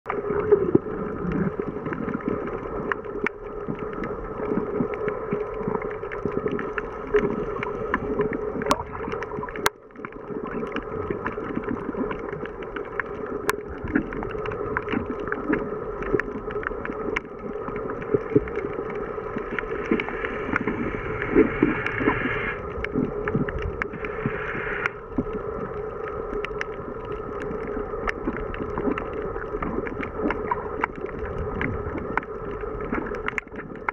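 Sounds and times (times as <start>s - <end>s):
small crackling clicks: 0.1s - 33.9s
underwater motor drone: 0.1s - 33.9s.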